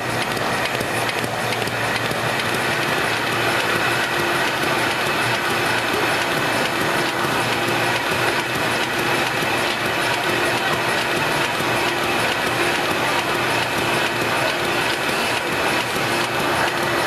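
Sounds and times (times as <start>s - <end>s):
machine clattering: 0.0s - 17.0s
steady machine hum: 0.0s - 17.0s.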